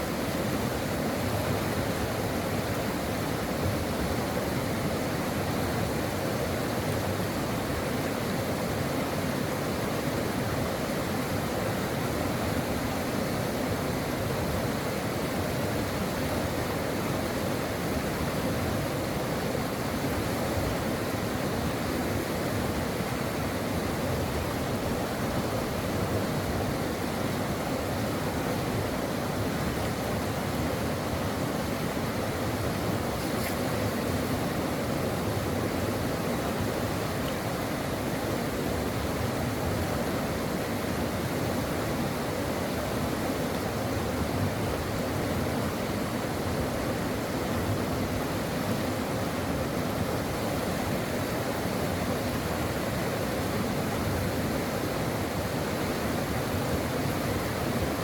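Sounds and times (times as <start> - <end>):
brook water flowing: 0.0 - 58.0.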